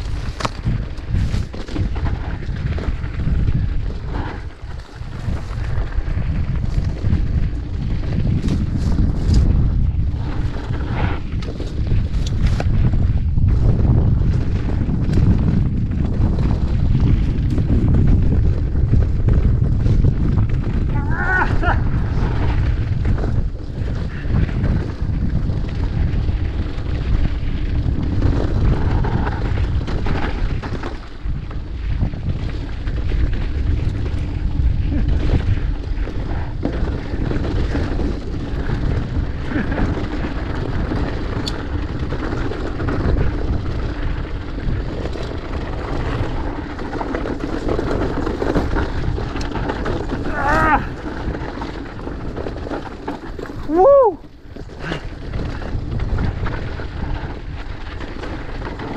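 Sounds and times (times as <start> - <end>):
bike tyres rolling on dirt: 0.0 - 58.9
wind buffeting microphone: 0.0 - 58.9.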